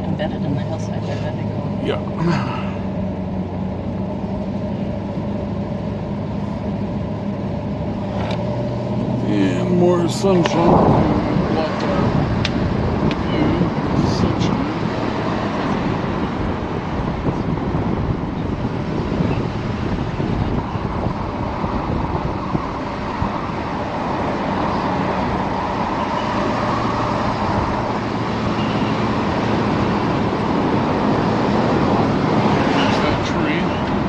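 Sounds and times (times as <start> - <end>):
low engine hum: 0.0 - 34.0
tyre and road noise: 0.0 - 34.0.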